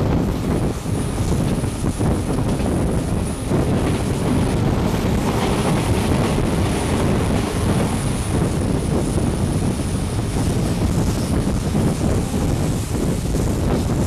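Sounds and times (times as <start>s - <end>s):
train coach rumbling on rails: 0.0s - 14.0s
wind on microphone: 0.0s - 14.0s.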